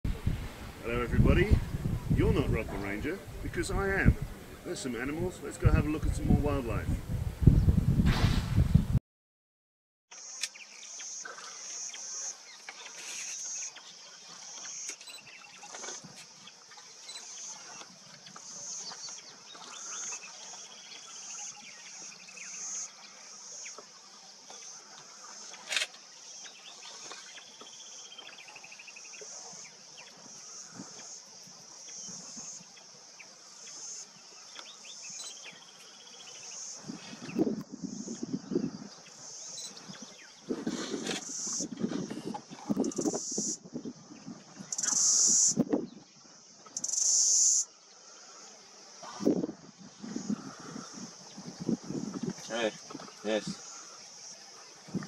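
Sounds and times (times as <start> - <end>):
insects buzzing chorus: 10.1 - 55.0.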